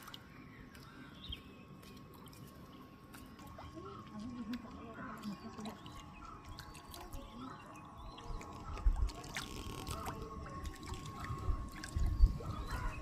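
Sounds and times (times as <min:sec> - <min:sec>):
birds chirping: 0:00.0 - 0:13.0
river water murmuring: 0:00.0 - 0:13.0.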